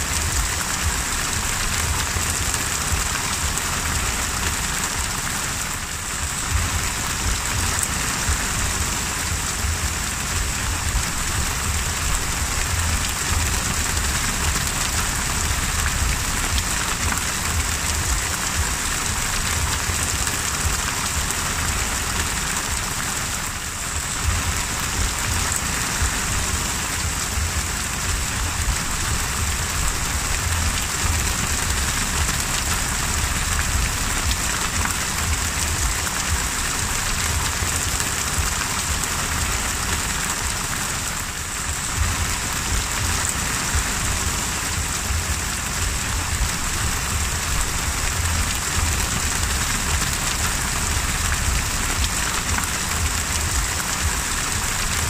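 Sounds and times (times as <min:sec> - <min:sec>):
heavy rain on sea water: 0:00.0 - 0:55.0
low rumble: 0:06.1 - 0:22.8, 0:23.6 - 0:39.6, 0:41.6 - 0:55.0.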